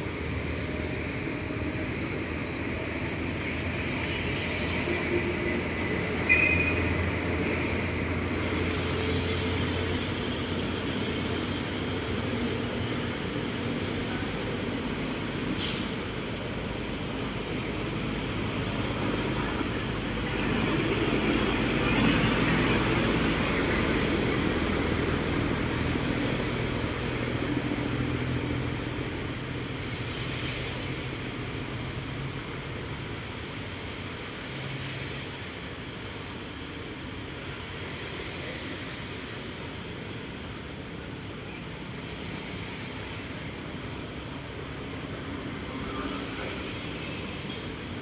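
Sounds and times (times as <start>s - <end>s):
distant engine drone: 0.0s - 33.2s, 37.0s - 48.0s
steady background rush: 0.0s - 48.0s.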